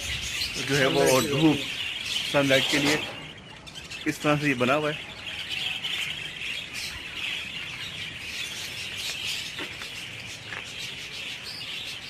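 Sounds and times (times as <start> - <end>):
cage birds twittering: 0.0 - 12.0.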